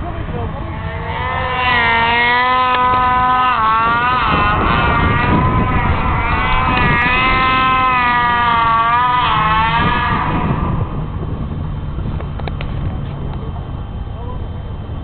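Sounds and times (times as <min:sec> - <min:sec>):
snowmobile engine at high revs: 0:00.0 - 0:13.6.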